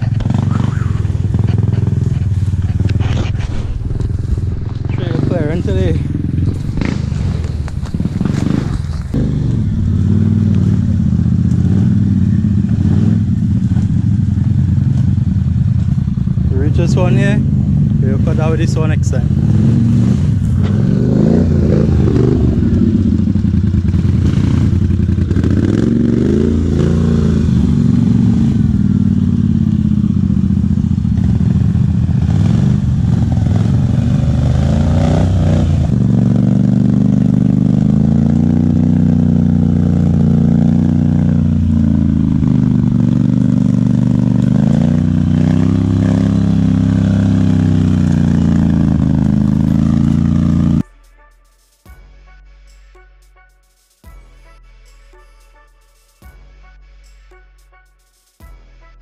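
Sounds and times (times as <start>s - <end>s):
off-road vehicle engine running: 0.0s - 51.0s.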